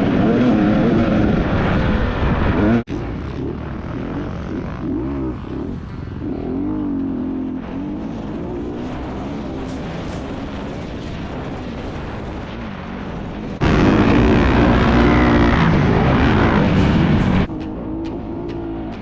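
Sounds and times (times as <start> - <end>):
dirt bike engines revving: 0.0 - 19.0
loud engine: 0.0 - 19.0.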